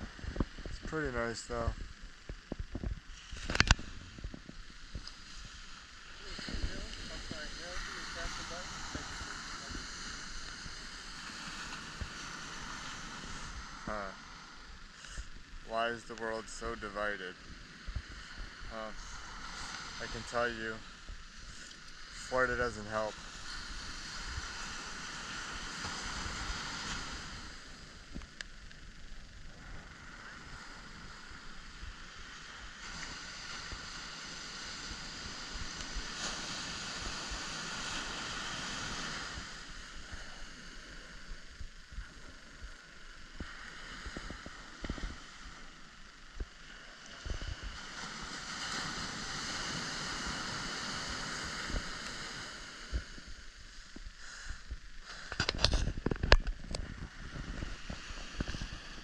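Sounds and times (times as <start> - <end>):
surf breaking on a beach: 0.0 - 59.0.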